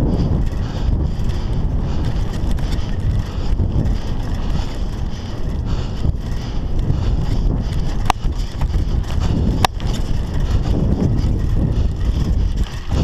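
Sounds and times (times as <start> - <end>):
bike tyre rumble on dirt: 0.0 - 13.0
wind buffeting microphone: 0.0 - 13.0.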